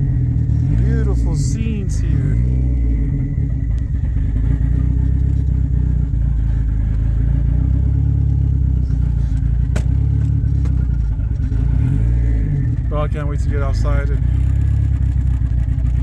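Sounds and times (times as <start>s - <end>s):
car engine running at low revs: 0.0s - 16.0s.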